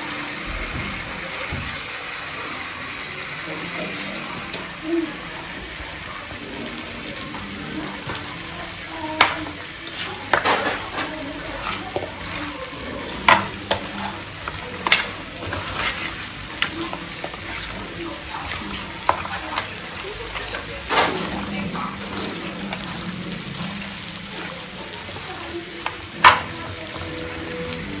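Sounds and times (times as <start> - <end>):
metal pots and utensils clattering: 0.0 - 28.0.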